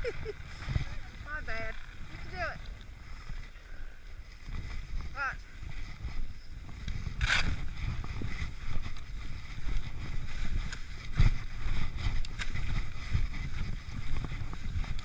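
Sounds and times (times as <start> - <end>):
wind on microphone: 0.0 - 15.0
skis scraping over snow: 0.3 - 15.0.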